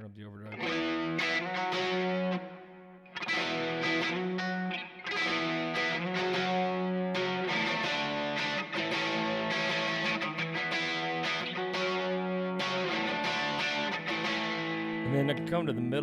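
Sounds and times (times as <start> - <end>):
overdriven electric guitar chords: 0.5 - 16.0.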